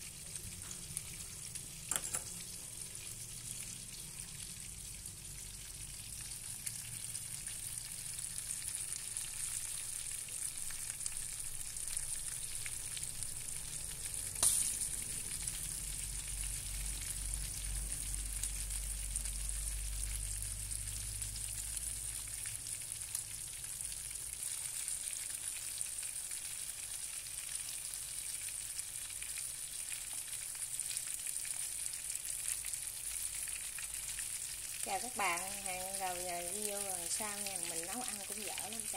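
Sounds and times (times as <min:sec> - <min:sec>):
fish sizzling in a frying pan: 0:00.0 - 0:38.9.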